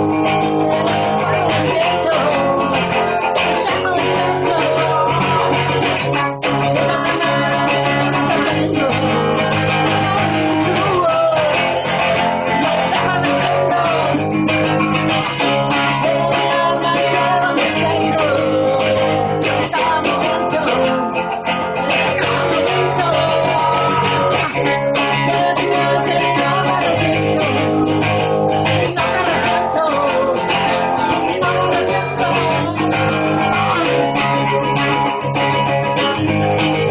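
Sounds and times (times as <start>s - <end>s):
loud guitar music with bass: 0.0s - 36.9s.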